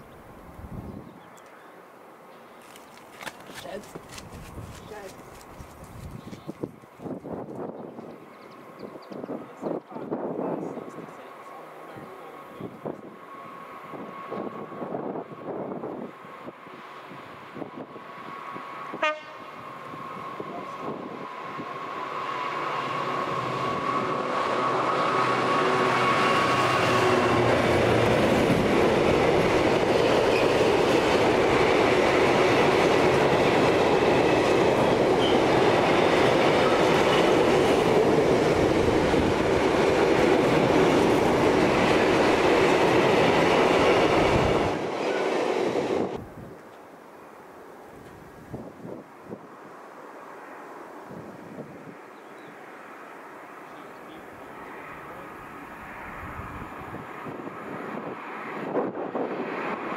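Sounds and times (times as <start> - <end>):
diesel locomotive engine: 2.6 - 46.6, 52.8 - 59.9.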